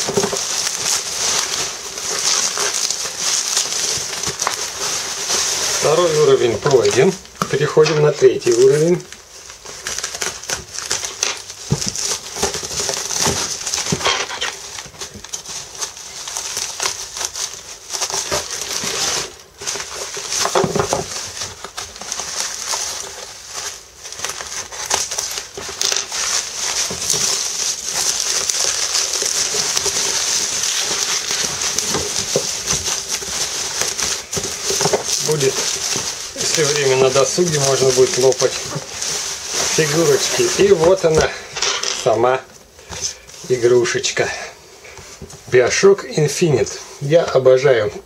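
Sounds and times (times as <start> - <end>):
packaging crinkling: 0.0 - 48.0.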